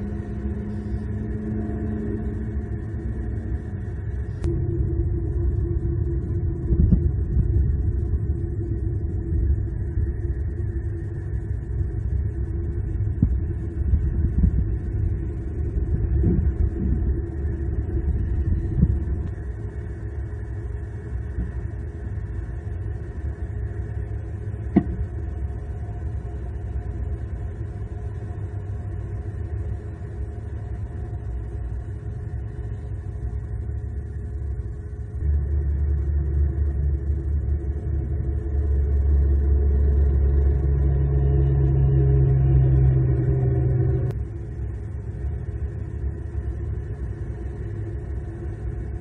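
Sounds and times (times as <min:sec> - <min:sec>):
low outdoor rumble: 0:00.0 - 0:49.0.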